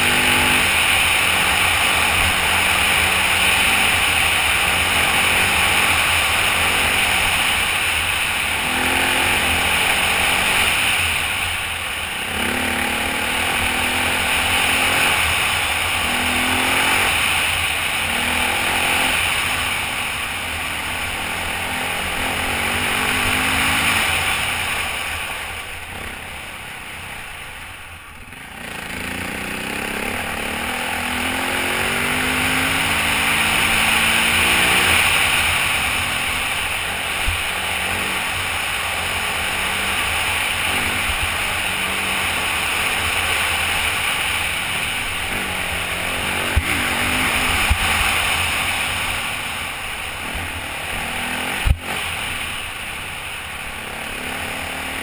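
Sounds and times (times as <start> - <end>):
dirt bike engine revving: 0.0 - 27.4, 28.2 - 55.0.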